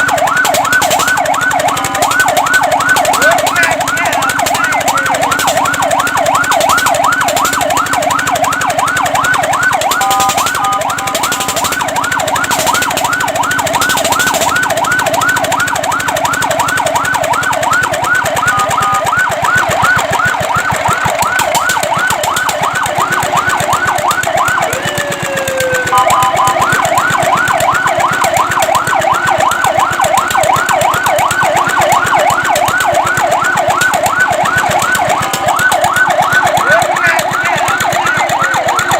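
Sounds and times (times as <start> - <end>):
falling siren tone: 0.0 - 38.9
fire truck siren yelping: 0.0 - 38.9.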